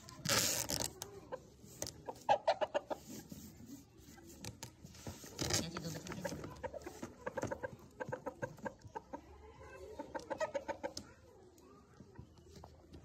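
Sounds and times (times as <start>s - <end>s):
chickens clucking: 0.9s - 13.0s.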